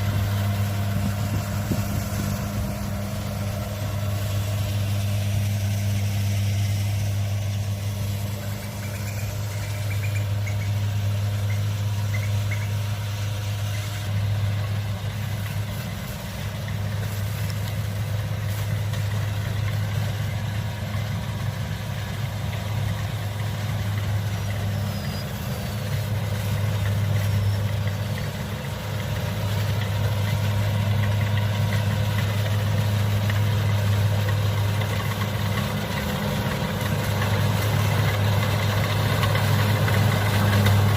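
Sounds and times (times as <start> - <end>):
diesel engine humming: 0.0 - 40.9.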